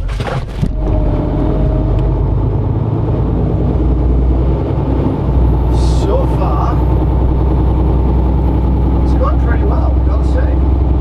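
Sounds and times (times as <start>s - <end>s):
truck diesel engine humming: 0.6s - 11.0s.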